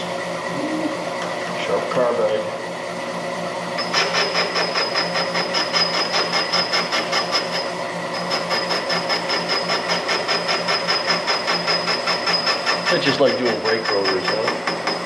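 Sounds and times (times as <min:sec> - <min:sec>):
high steady tool whine: 0:00.0 - 0:15.0.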